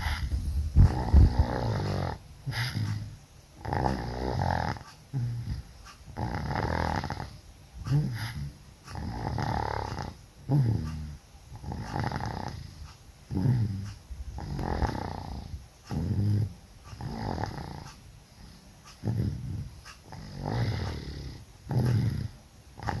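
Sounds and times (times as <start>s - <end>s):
person snoring loudly: 0.0s - 5.6s, 6.2s - 17.9s, 19.0s - 23.0s.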